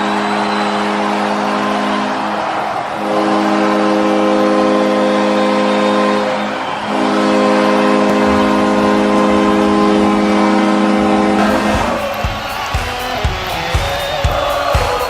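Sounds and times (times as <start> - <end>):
arena goal horn blasting: 0.0 - 14.6.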